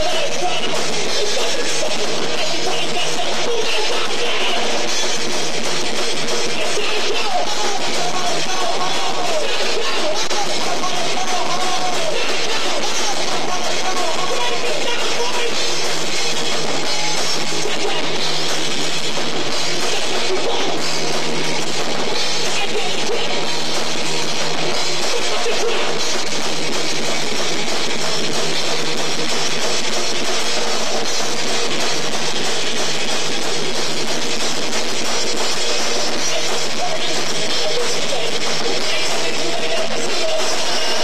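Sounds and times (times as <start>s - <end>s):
rock band playing: 0.0s - 41.0s.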